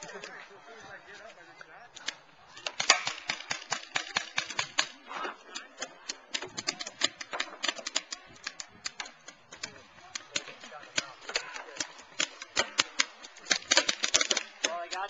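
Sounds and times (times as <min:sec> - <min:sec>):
paintball markers firing: 0:02.0 - 0:05.0, 0:05.6 - 0:15.0.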